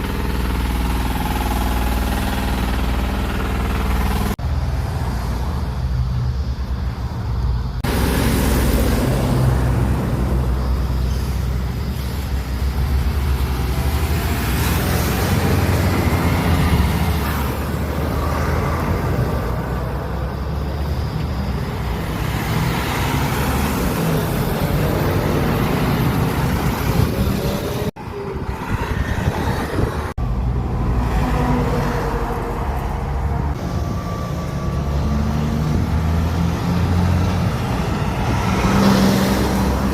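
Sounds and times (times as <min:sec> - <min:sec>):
passing cars and trucks rumbling: 0:00.0 - 0:39.9
road noise: 0:00.0 - 0:39.9.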